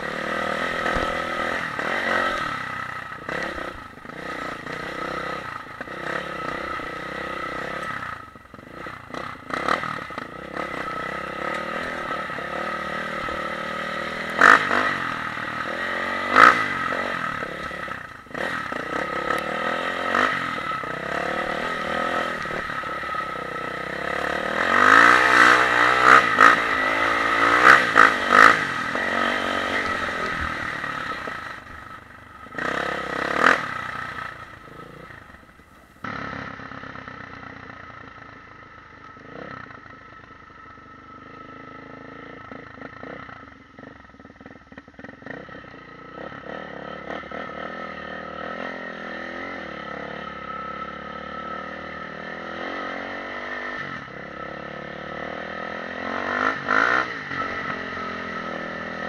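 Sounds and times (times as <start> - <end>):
dirt bike engine revving: 0.0 - 37.0, 41.1 - 43.9, 45.0 - 59.0.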